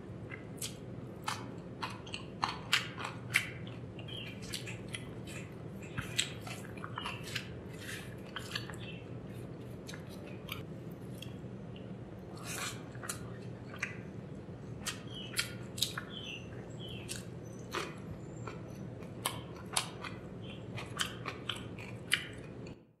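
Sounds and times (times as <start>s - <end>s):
person chewing rice: 0.1s - 22.8s.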